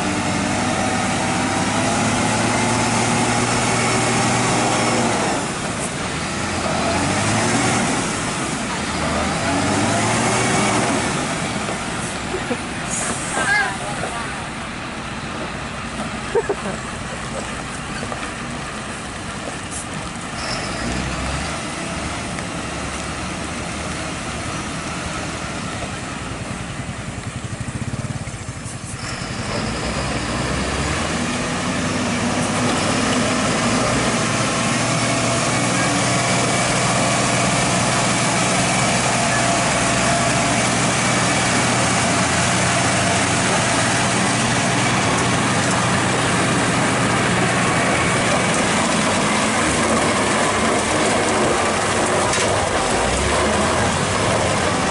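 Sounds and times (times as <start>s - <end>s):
truck diesel engines running: 0.0s - 54.9s.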